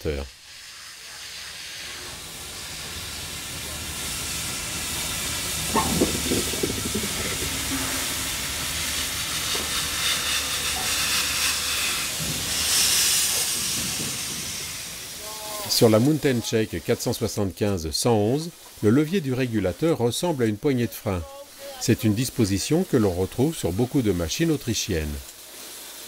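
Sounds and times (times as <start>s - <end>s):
steam hissing from locomotive: 0.0s - 26.0s.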